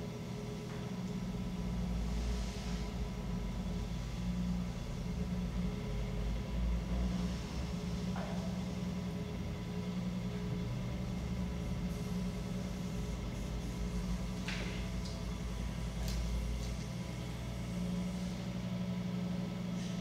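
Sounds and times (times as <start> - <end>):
potter's wheel humming: 0.0 - 20.0.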